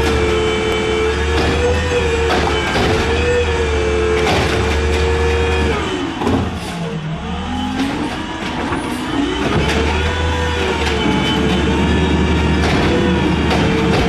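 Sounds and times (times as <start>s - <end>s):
garbage truck diesel engine revving: 0.0s - 14.0s.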